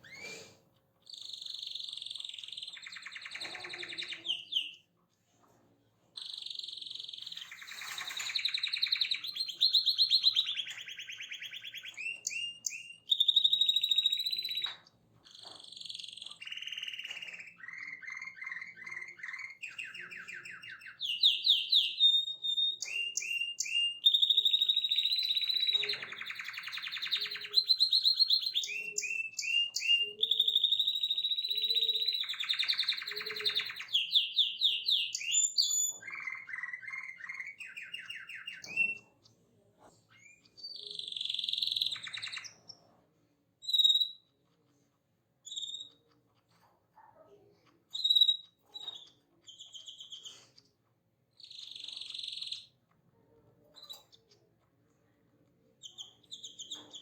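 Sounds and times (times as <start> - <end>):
songbird trilling and chirping: 1.0 - 4.9, 6.2 - 39.3, 40.1 - 42.9, 43.6 - 44.4, 45.4 - 46.2, 47.6 - 50.7, 51.3 - 52.8, 55.7 - 57.0.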